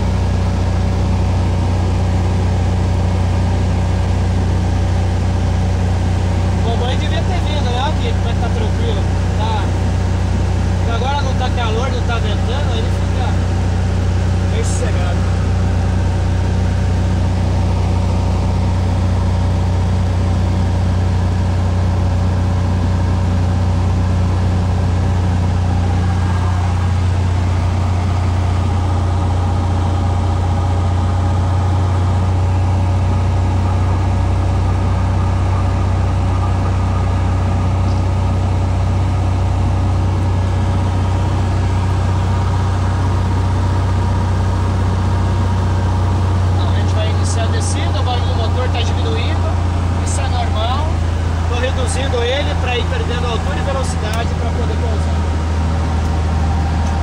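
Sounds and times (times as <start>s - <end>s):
light plane engine droning: 0.0s - 57.0s.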